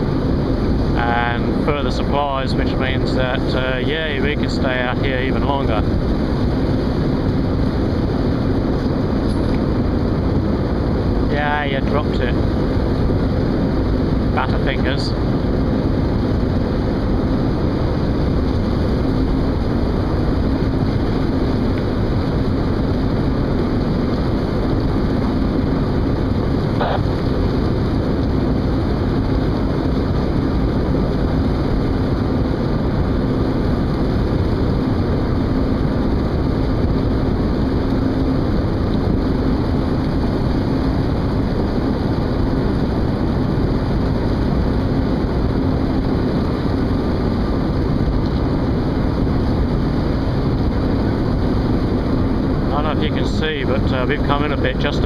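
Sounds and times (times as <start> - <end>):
boat engines droning: 0.0 - 55.0.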